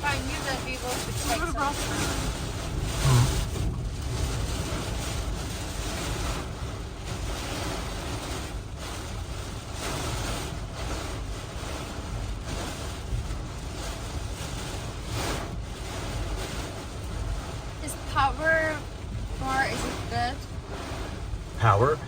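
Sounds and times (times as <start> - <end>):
hurricane winds roaring: 0.0 - 22.0.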